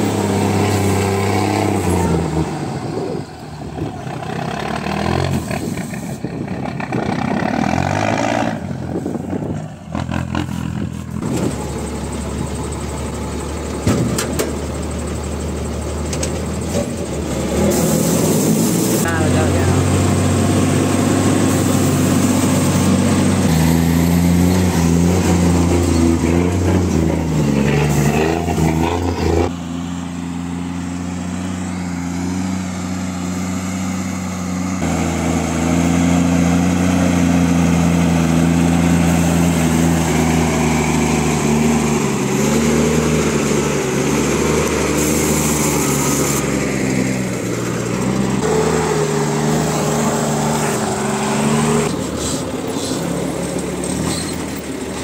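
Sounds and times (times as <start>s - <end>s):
truck engine running under load: 0.0s - 55.0s.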